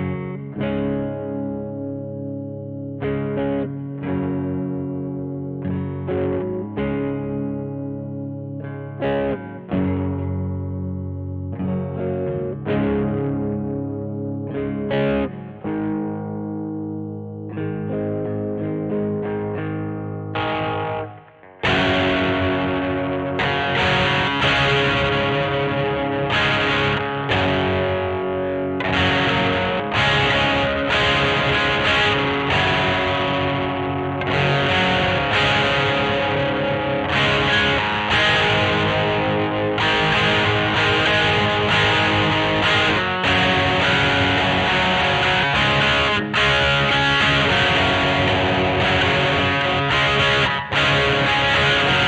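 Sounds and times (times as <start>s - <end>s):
distorted electric guitar chords: 0.0s - 52.0s.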